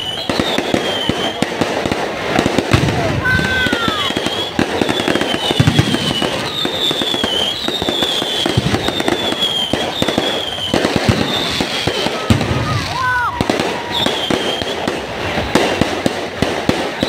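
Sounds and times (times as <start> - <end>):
fireworks crackling and banging: 0.0 - 17.0
whistling firework shells: 0.0 - 17.0.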